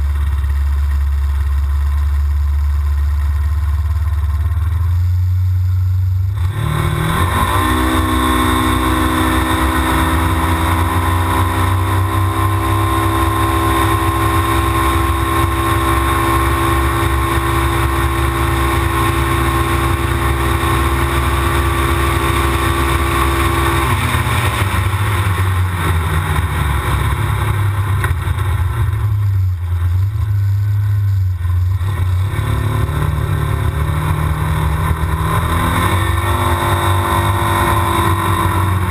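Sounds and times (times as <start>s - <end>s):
road and wind noise: 0.0s - 38.9s
vehicle engine from inside cab: 0.0s - 38.9s.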